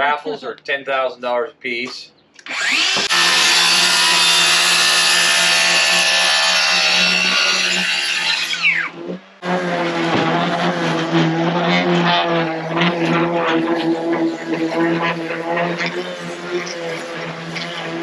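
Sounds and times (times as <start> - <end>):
circular saw cutting plywood: 2.4 - 18.0.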